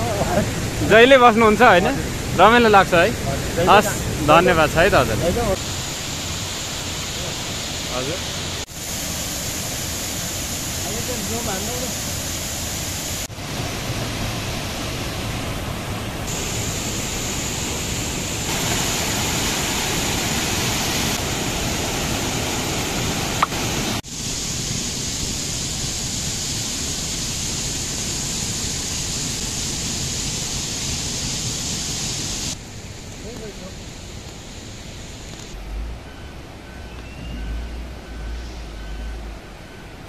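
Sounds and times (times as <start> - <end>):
water rushing over boulders: 0.0 - 40.0.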